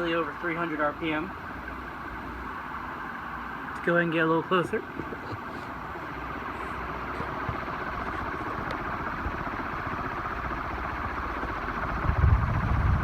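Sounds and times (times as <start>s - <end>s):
ceiling fan air rush: 0.0s - 13.0s
fan low rumble: 0.0s - 13.0s.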